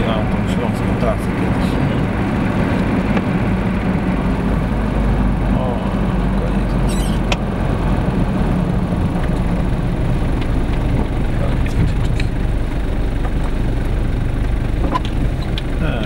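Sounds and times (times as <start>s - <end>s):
car engine and tyre hum: 0.0s - 16.0s.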